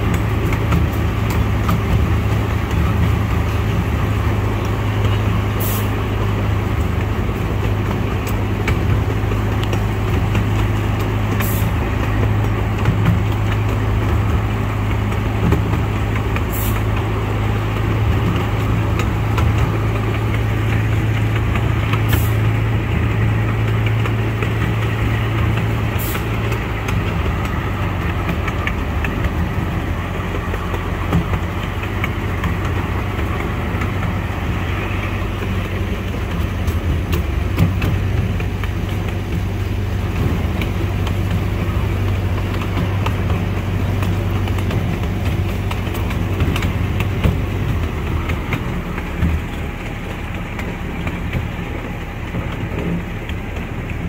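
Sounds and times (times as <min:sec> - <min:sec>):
large engine droning: 0:00.0 - 0:54.0.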